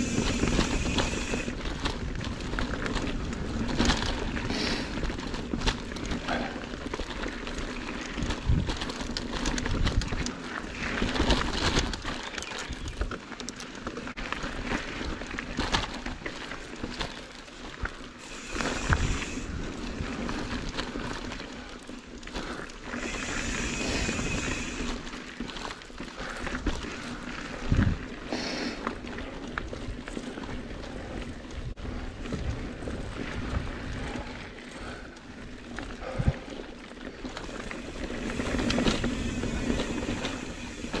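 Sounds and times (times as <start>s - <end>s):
bike knocking and rattling: 0.0s - 41.0s
bike tyres on dirt: 0.0s - 41.0s.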